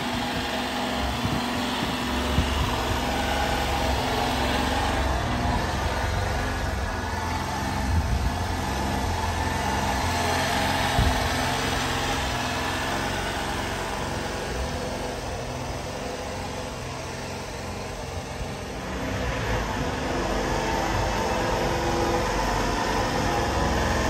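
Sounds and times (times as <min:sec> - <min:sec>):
small truck engine idling: 0:00.0 - 0:24.0.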